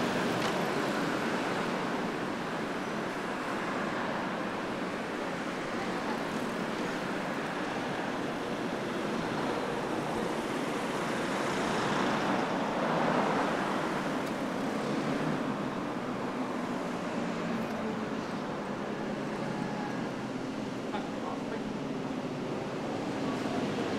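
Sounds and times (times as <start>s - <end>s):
road traffic noise: 0.0s - 23.9s.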